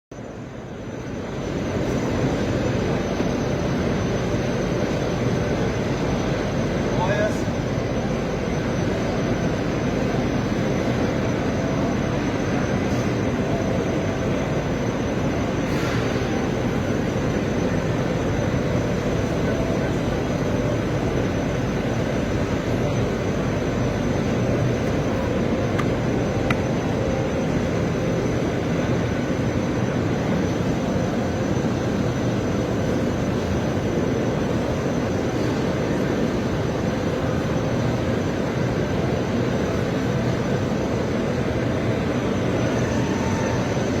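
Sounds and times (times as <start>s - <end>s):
faint high whine: 0.1s - 44.0s
machinery running in a hall: 0.1s - 44.0s.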